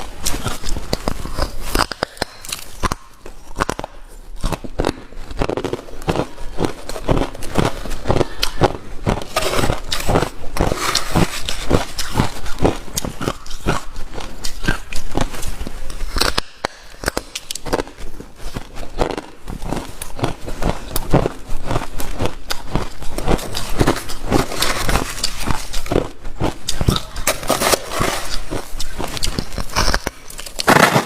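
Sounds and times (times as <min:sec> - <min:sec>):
ice being chewed and crunched: 0:00.0 - 0:31.0.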